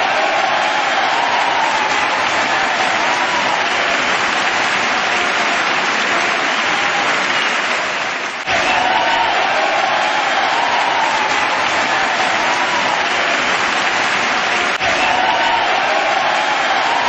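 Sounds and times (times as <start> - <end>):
crowd applause: 0.0 - 17.0.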